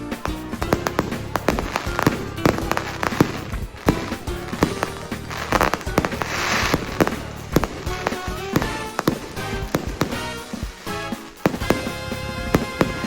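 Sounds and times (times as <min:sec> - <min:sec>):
fireworks bangs and pops: 0:00.0 - 0:13.0
hissing crackle of fireworks: 0:00.0 - 0:13.0
music: 0:00.0 - 0:13.0.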